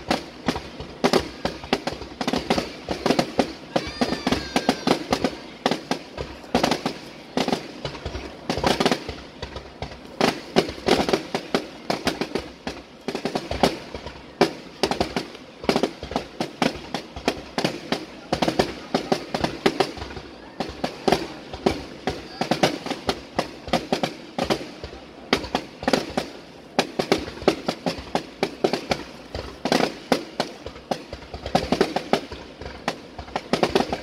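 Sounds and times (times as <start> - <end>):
fireworks bursting: 0.0 - 34.0.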